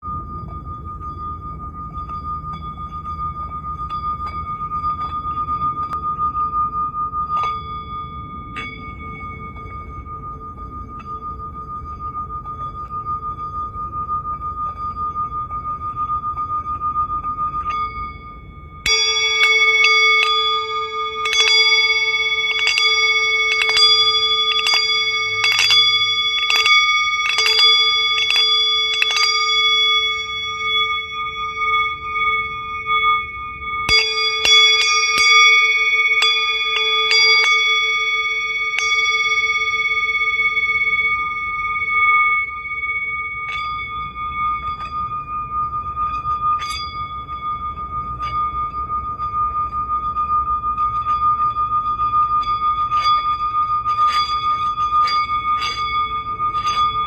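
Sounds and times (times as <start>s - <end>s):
metal chimes ringing: 0.0s - 57.0s
steady held tone: 0.0s - 57.0s.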